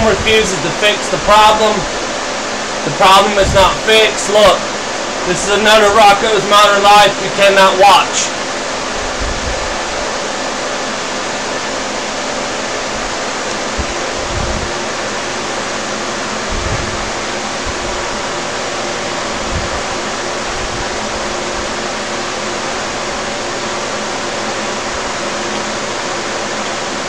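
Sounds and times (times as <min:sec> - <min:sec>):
steady rushing hiss: 0:00.0 - 0:27.0.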